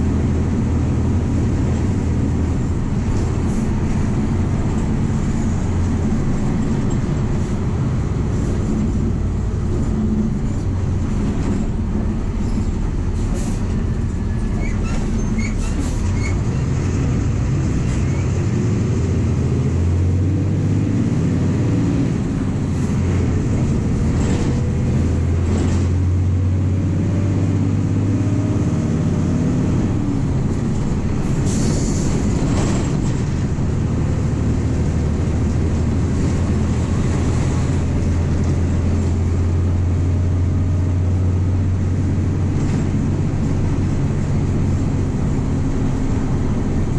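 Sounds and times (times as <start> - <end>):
bus diesel engine drone: 0.0 - 46.9
road noise: 0.0 - 46.9.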